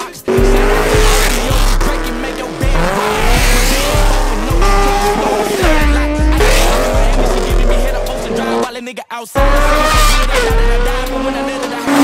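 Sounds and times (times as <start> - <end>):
car engines revving: 0.0 - 8.7, 9.4 - 12.0
hip-hop music with bass beat: 0.0 - 12.0.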